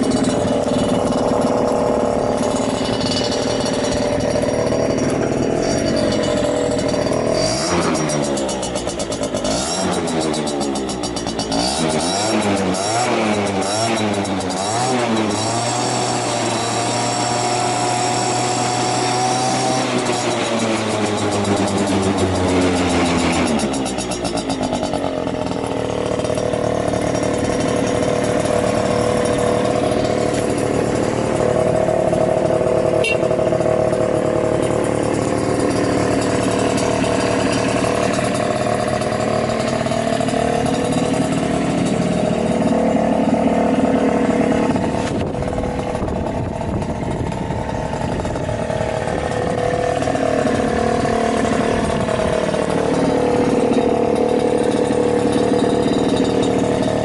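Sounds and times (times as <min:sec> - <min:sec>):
two-stroke scooter engine idling: 0:00.0 - 0:57.0.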